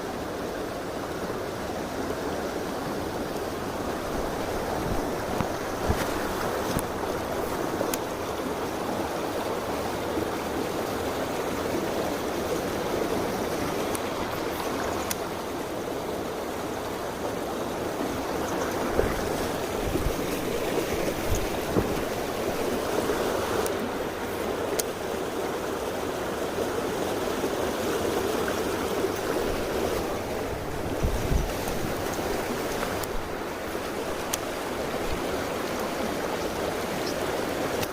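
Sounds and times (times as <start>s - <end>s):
stream rushing over rocks: 0.0s - 37.9s.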